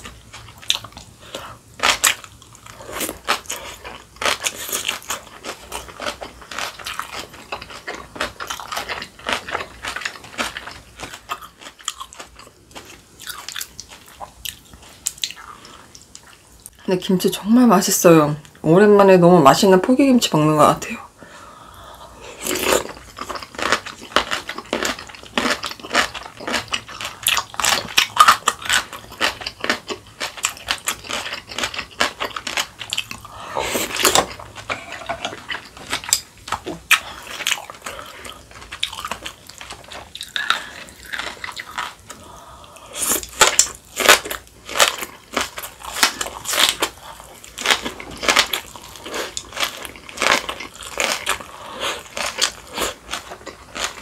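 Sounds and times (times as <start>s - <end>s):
crisp crunching and chewing: 0.0s - 16.4s, 22.4s - 42.4s, 43.0s - 54.0s.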